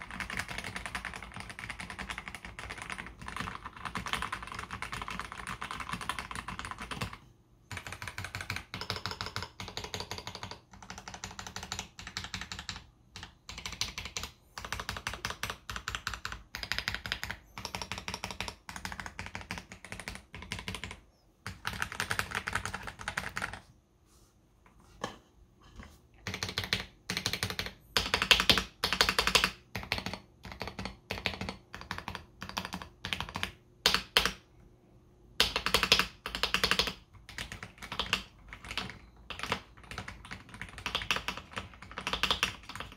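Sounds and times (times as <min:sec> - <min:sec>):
mechanical keyboard typing: 0:00.0 - 0:23.6, 0:26.2 - 0:34.5, 0:35.4 - 0:42.9.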